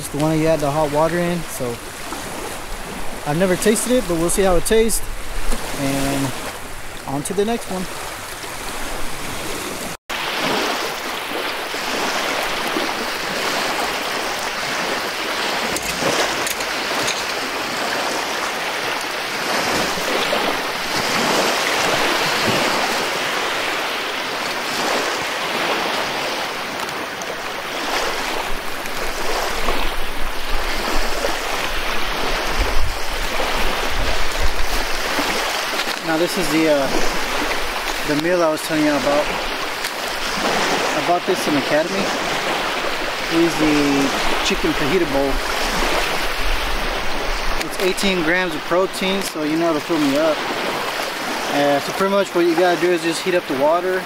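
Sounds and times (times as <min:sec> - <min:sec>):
wind gusting on microphone: 0:00.0 - 0:52.0
waves washing on shore: 0:00.0 - 0:54.0.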